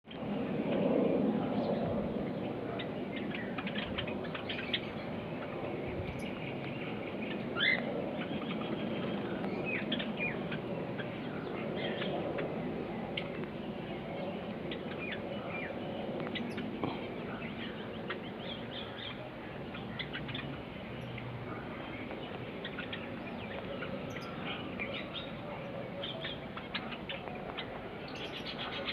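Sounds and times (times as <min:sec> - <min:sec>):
steady low hiss: 0:00.2 - 0:28.9
sweeping bird call: 0:01.4 - 0:28.9
zebra finches chirping: 0:02.6 - 0:28.9.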